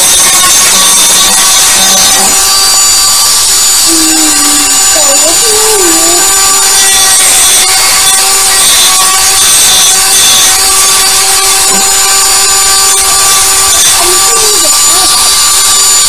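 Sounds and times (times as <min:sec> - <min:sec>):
rotary tool cutting plastic: 0:00.0 - 0:16.0.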